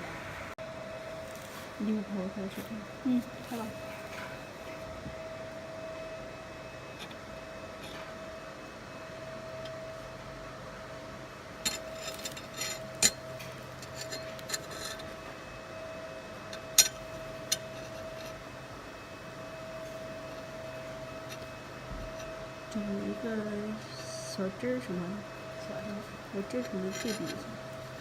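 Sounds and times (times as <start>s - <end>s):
laser machine steady tone: 0.2s - 28.0s.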